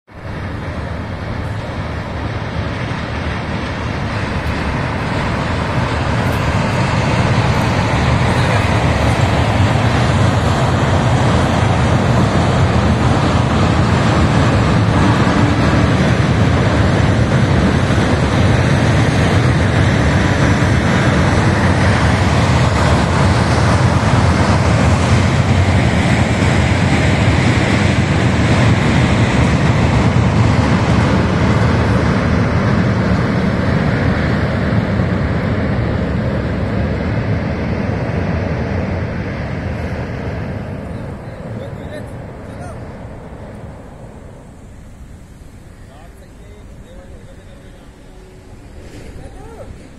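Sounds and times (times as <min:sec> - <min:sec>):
train rumbling over steel bridge: 0:00.1 - 0:49.9.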